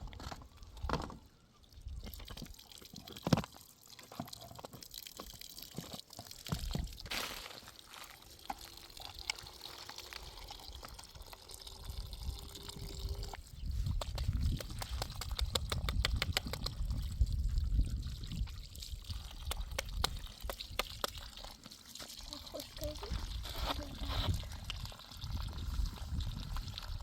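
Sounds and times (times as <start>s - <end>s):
water pouring and dribbling: 0.0s - 27.0s.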